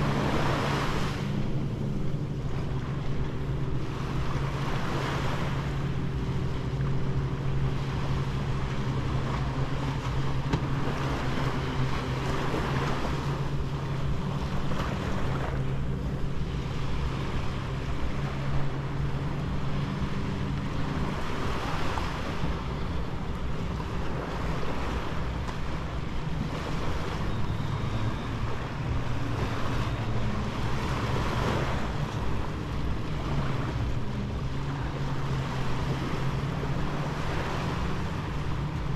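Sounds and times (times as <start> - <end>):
sea waves washing onto beach: 0.0 - 38.9
steady engine hum: 0.0 - 38.9.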